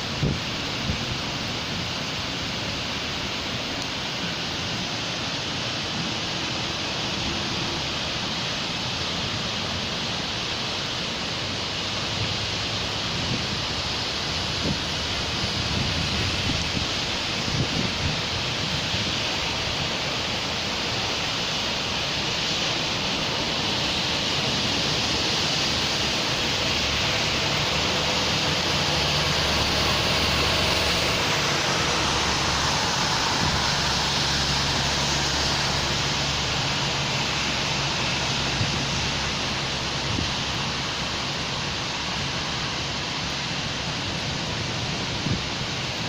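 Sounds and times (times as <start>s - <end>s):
rain falling on street: 0.0s - 46.0s
vehicle passing on wet road: 0.0s - 46.0s.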